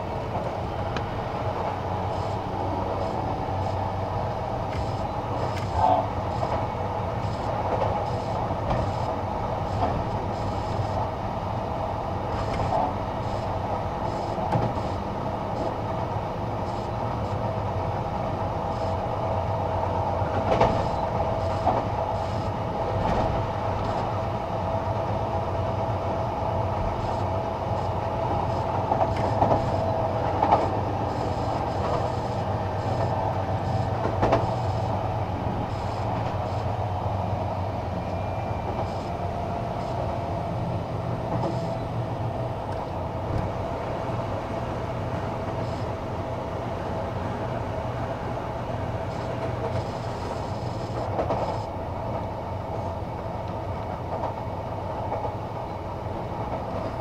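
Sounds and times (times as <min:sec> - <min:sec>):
train hum: 0:00.0 - 0:57.0
train wheels rumbling on rail: 0:00.0 - 0:57.0.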